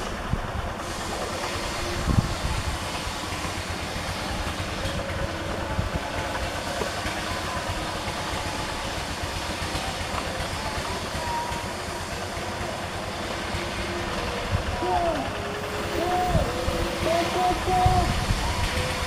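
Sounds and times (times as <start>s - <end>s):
tractor diesel engine chugging: 0.0s - 19.0s.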